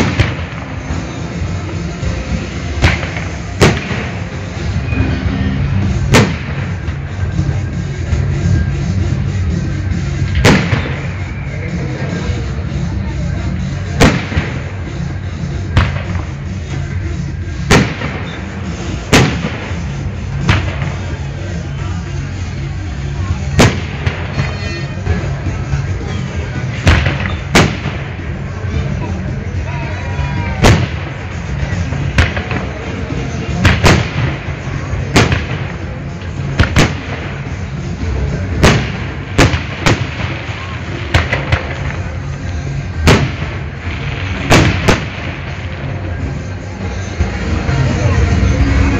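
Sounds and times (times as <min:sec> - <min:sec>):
firework bangs: 0:00.0 - 0:08.7, 0:10.2 - 0:12.8, 0:13.8 - 0:22.4, 0:23.4 - 0:29.0, 0:30.4 - 0:46.4
music with low beat: 0:00.0 - 0:48.9.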